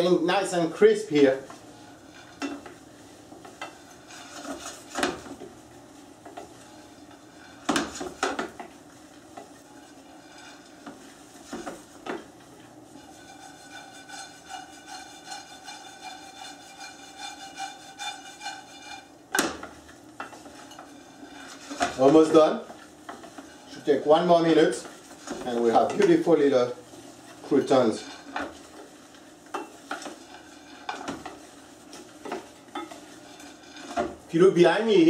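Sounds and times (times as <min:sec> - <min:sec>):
bread cubes frying in butter: 0:00.0 - 0:35.0
spatula scraping a pan: 0:00.0 - 0:35.0.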